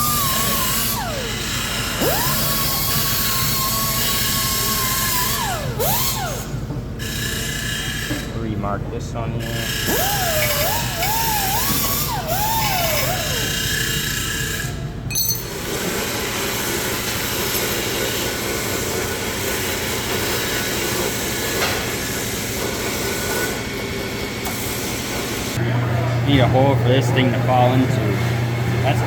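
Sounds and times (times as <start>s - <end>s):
power tool machining: 0.0s - 8.3s, 9.4s - 14.8s, 15.6s - 25.6s.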